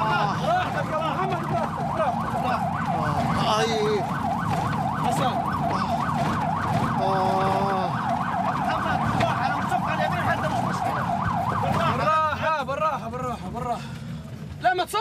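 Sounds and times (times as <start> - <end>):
ambulance siren yelping: 0.0 - 12.8
low engine rumble: 0.0 - 15.0.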